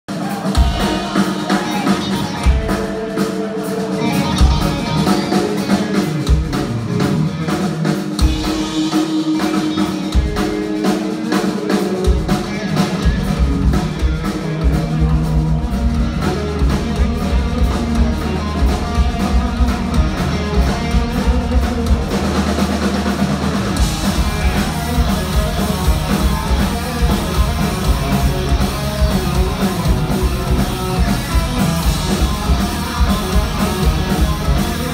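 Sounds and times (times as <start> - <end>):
heavy metal band playing live: 0.1 - 34.9.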